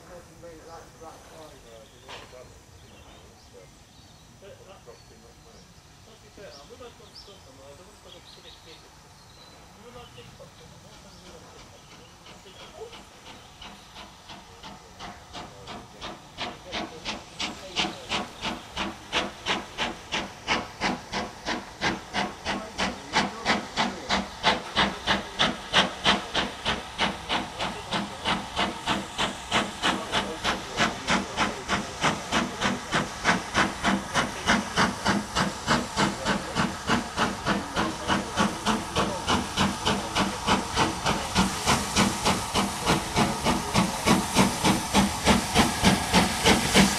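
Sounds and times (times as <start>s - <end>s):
steam locomotive chuffing: 0.0s - 46.9s.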